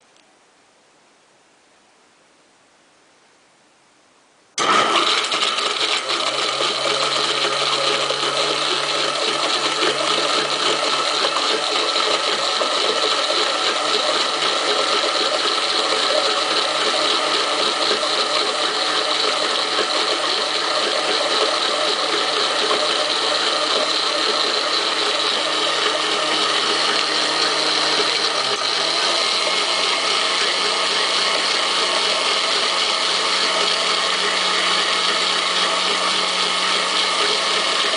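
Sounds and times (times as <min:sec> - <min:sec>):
blender motor running: 0:04.6 - 0:37.9.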